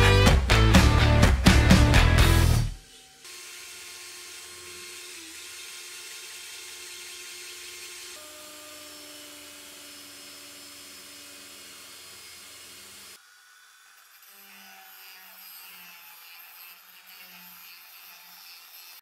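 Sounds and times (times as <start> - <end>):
electric drill whining: 1.8 - 19.0.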